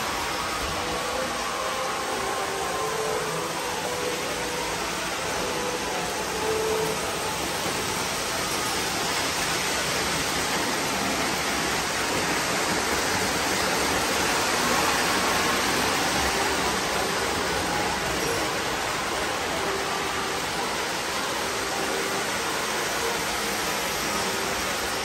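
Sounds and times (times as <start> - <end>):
model trains rushing: 0.0 - 25.0.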